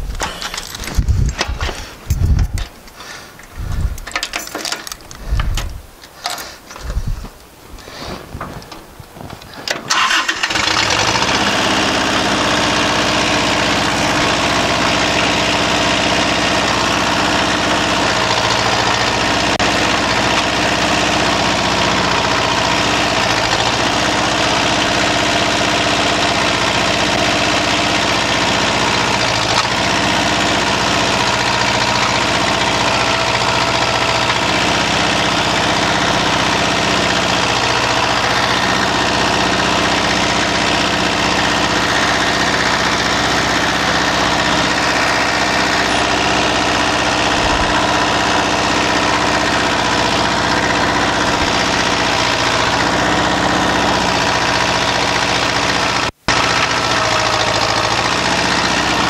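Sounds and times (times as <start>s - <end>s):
tractor engine starting and running: 0.0s - 59.0s.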